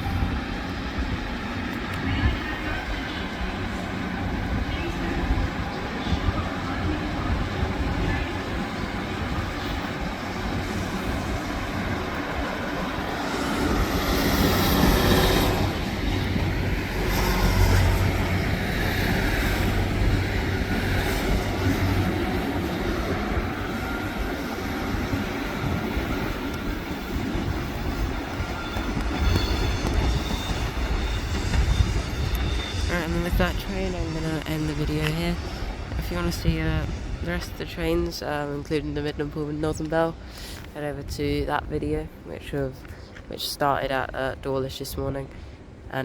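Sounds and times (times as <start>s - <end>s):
train wheels on rails: 0.0s - 45.9s
diesel train engine hum: 0.0s - 46.0s.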